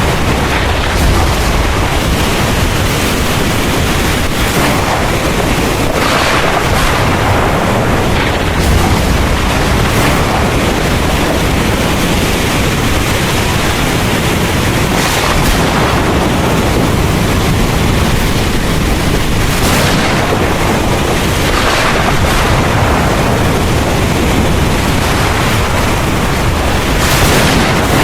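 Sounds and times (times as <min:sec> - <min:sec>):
heavy rain pouring: 0:00.0 - 0:28.0
low rumble of thunder: 0:00.0 - 0:28.0.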